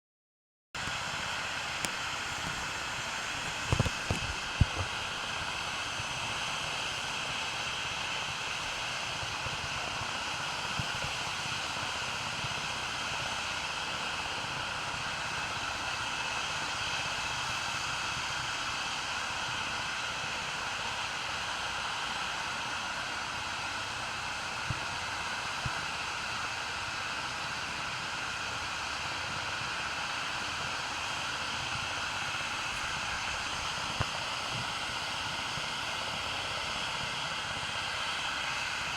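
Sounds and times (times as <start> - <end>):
helicopter engine and rotor: 0.8 - 38.9.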